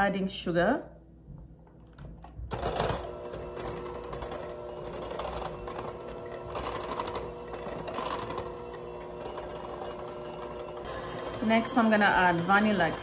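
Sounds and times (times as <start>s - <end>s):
electric hand mixer whirring: 2.5s - 13.0s.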